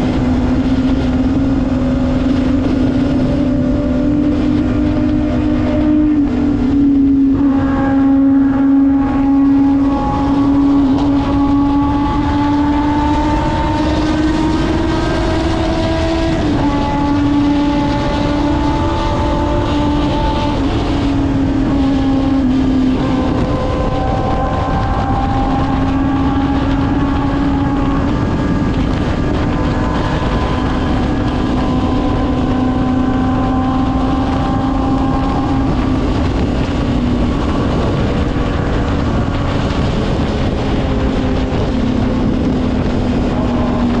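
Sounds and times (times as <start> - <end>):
motorcycle engine cruising: 0.0 - 44.0
steady rushing noise: 0.0 - 44.0.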